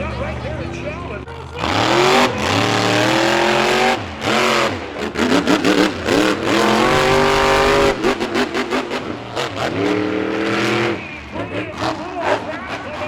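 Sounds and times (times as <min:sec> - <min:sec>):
monster truck engines revving: 0:00.0 - 0:13.0.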